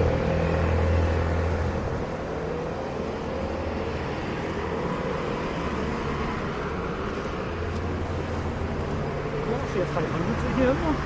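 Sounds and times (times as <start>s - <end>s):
road vehicle rumble and hiss: 0.0s - 11.0s.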